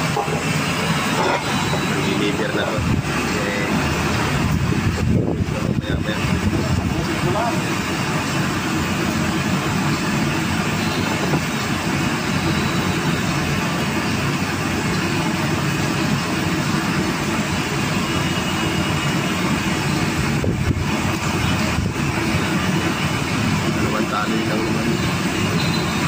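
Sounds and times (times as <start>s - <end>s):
machine shop motor rumble: 0.0s - 26.0s.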